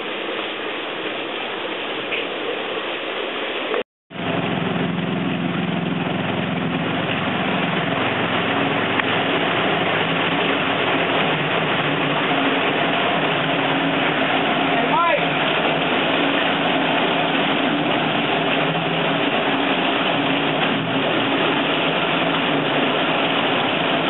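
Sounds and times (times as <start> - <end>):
water splashing onto water wheel: 0.0 - 24.0
low even hum: 4.2 - 24.0.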